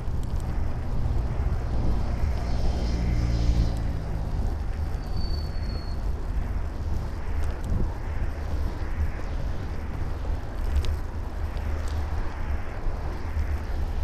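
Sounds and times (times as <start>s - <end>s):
bicycle rattles: 0.0s - 2.7s, 3.8s - 14.0s
passing road traffic: 0.0s - 14.0s
wind and road rumble: 0.0s - 14.0s.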